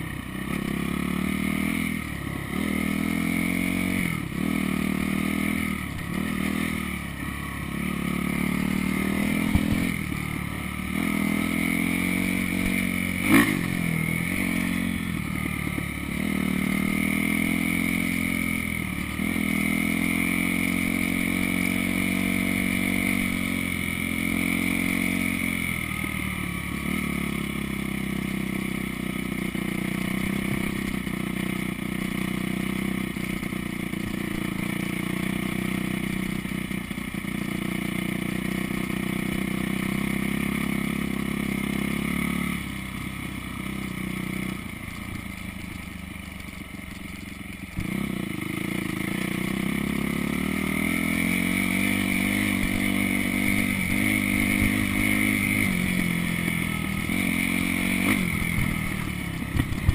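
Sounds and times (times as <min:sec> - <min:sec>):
dirt bike engine revving: 0:00.0 - 0:45.7, 0:46.4 - 0:59.9.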